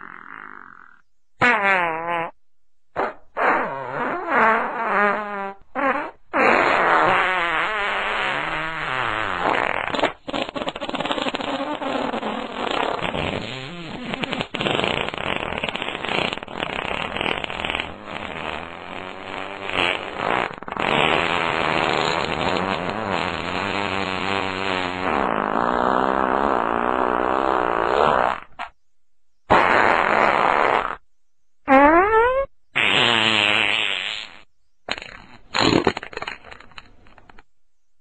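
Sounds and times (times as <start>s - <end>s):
farting: 0.0s - 28.8s, 29.5s - 31.1s, 31.7s - 37.5s.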